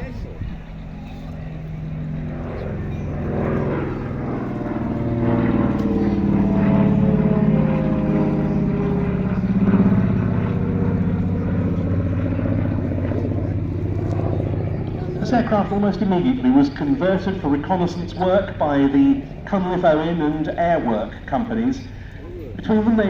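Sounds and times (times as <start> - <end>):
propeller plane engines droning: 0.0 - 23.0.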